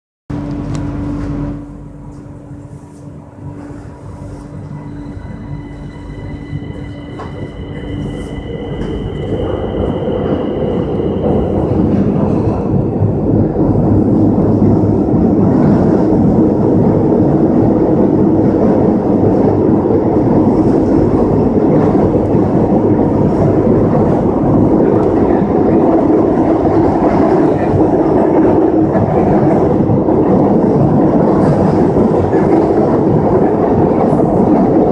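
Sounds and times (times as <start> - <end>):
high steady whining tones: 0.3 - 34.9
train wheels rumbling on rails: 0.3 - 34.9.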